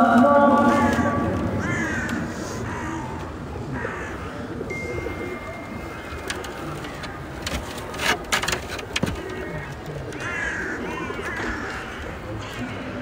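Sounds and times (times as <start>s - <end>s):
crowd hum: 0.0s - 13.0s
birds calling: 0.7s - 13.0s.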